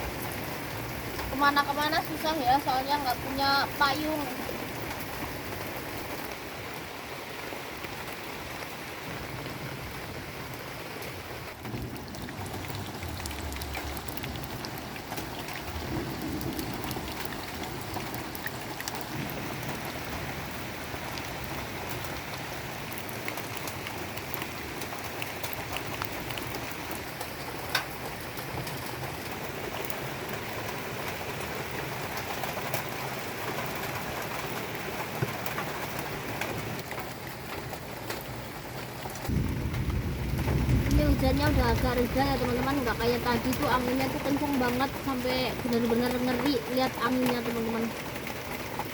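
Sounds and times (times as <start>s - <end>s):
heavy rain pouring: 0.0s - 48.9s
raindrops ticking on surfaces: 0.0s - 48.9s.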